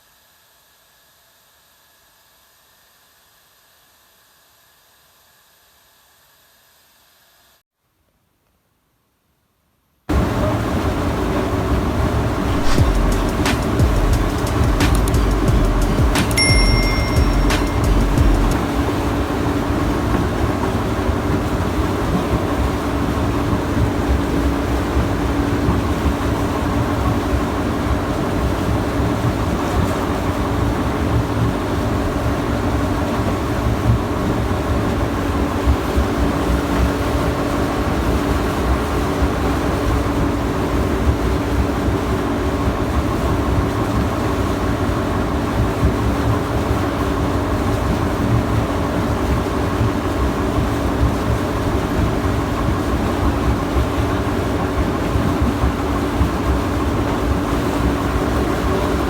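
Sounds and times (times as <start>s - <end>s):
ship machinery drone: 10.1s - 59.0s.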